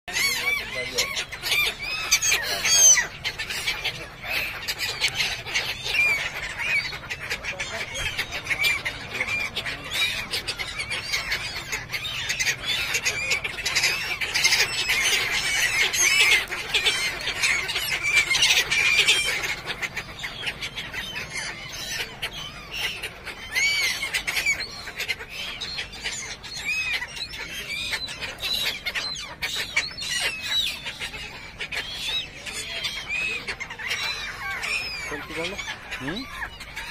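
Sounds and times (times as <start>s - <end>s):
gulls calling: 0.1s - 36.9s.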